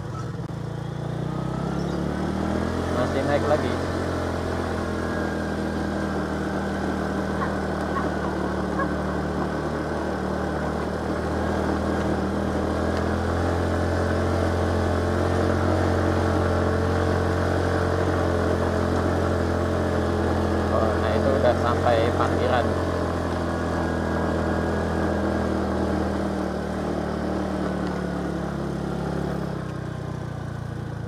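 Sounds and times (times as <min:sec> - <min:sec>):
vehicle engine under load: 0:00.0 - 0:31.0.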